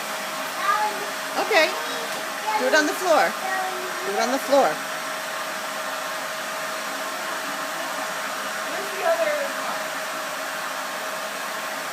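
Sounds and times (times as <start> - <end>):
vacuum cleaner running: 0.0 - 11.9.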